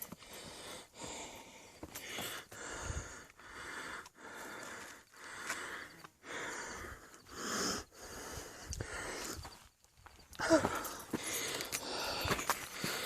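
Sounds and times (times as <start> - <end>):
person breathing heavily: 0.0 - 9.6, 10.4 - 13.0.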